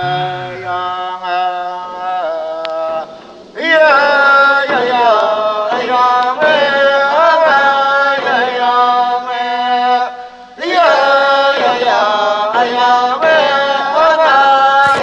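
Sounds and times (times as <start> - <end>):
person singing wordless chant: 0.0 - 15.0.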